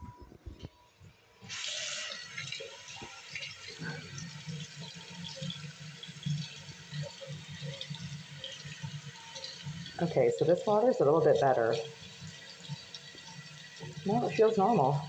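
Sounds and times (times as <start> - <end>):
water running into sink basin: 1.4 - 15.0.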